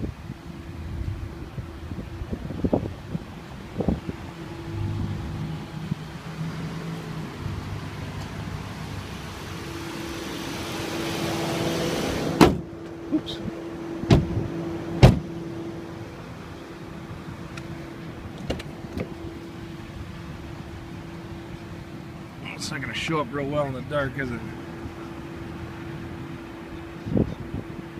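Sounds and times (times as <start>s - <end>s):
car engine idling: 0.1s - 27.9s.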